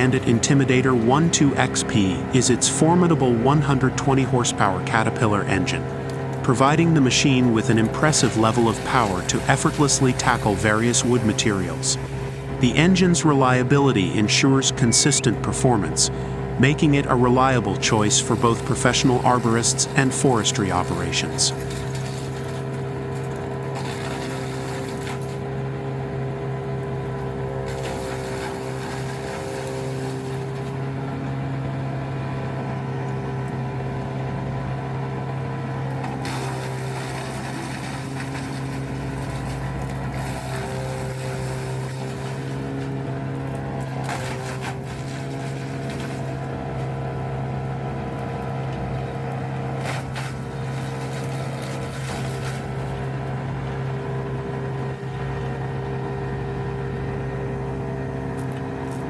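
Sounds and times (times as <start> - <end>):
wood chipper diesel engine running: 0.0 - 59.0.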